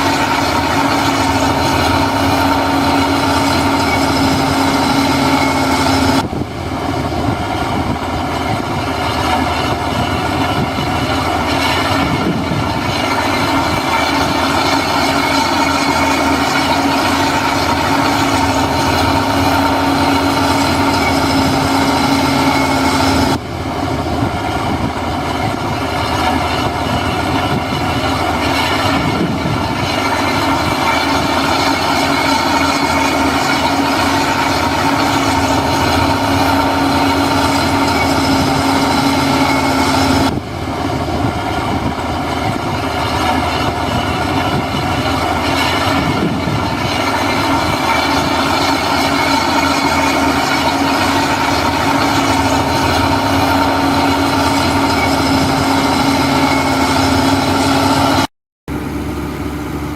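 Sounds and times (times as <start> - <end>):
heavy diesel machinery whining: 0.0 - 59.9.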